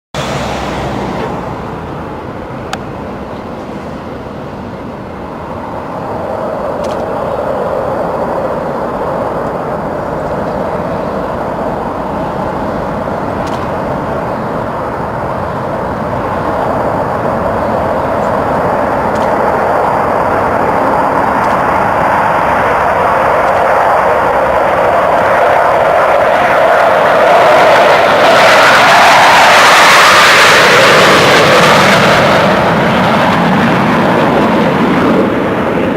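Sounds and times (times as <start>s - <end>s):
jet engines roaring: 0.1s - 35.9s.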